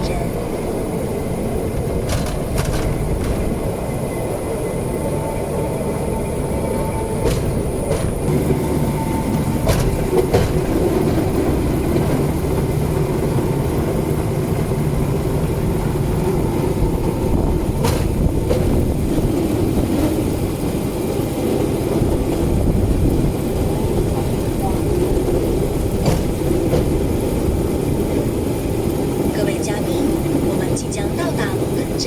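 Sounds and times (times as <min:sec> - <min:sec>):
steel wheels rumbling on rail track: 0:00.0 - 0:32.0
wheels clicking over rail joints: 0:00.0 - 0:32.0.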